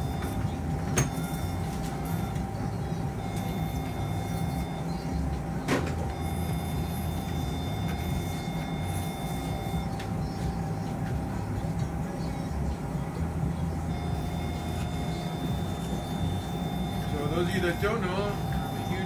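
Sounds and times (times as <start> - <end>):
cautery unit activation tone: 0.0 - 19.0
low hum of equipment: 0.0 - 19.0.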